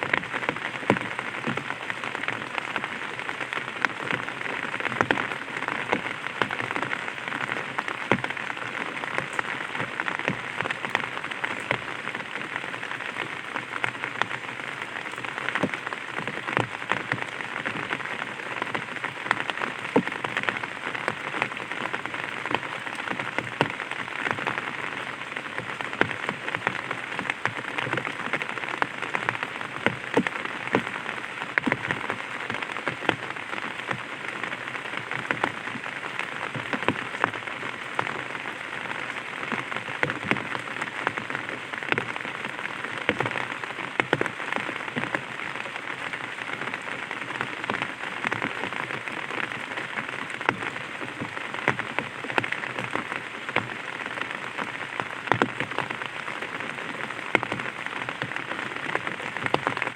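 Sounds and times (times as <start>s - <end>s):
light rain on an umbrella: 0.0s - 59.9s.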